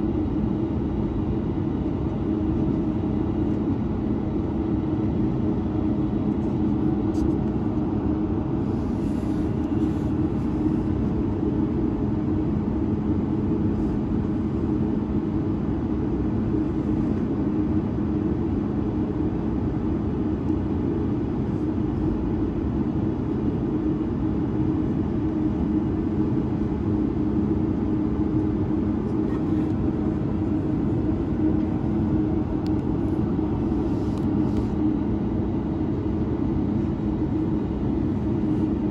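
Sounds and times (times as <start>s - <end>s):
airplane cabin engine hum: 0.0s - 38.9s.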